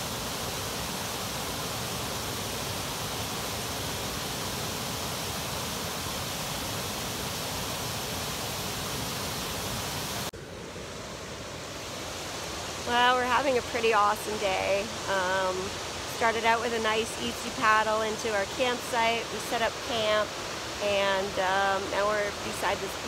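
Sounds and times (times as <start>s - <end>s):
quieter water rushing: 0.0s - 23.0s
waterfall rushing: 0.0s - 23.0s.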